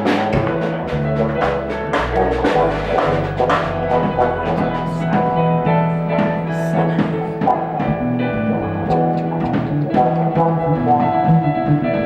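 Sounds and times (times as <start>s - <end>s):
drum kit beat: 0.0s - 8.1s, 8.9s - 11.2s
rock band playing: 0.0s - 12.0s.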